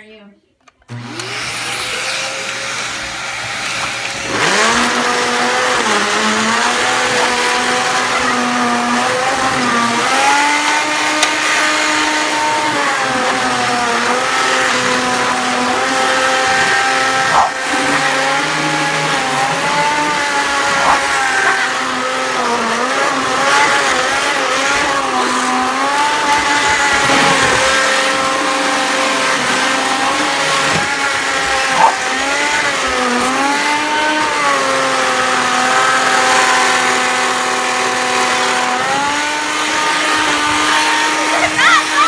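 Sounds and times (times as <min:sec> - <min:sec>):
vacuum cleaner motor running: 0:00.6 - 0:42.0.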